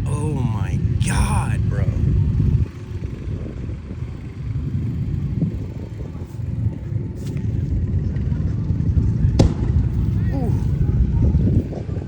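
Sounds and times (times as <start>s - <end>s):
fire low rumble: 0.0s - 12.0s.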